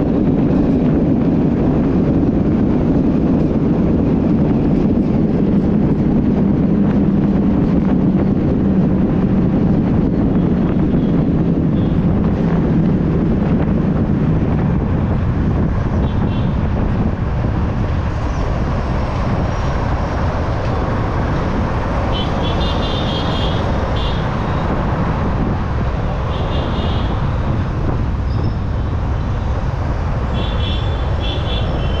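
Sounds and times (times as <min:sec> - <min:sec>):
motorcycle engine and road noise: 0:00.0 - 0:32.0.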